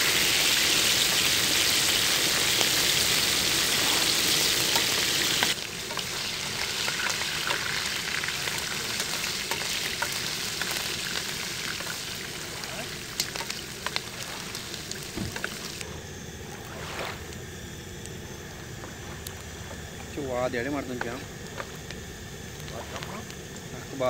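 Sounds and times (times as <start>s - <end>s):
shrimp sizzling in hot oil: 0.0s - 15.8s, 16.6s - 24.0s.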